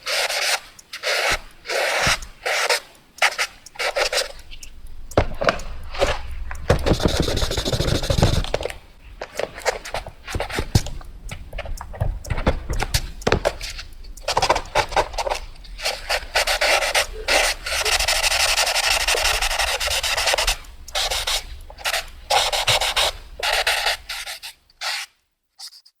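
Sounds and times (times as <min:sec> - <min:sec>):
drawing tool scratching paper: 0:00.0 - 0:04.4, 0:05.4 - 0:10.9, 0:12.2 - 0:25.1.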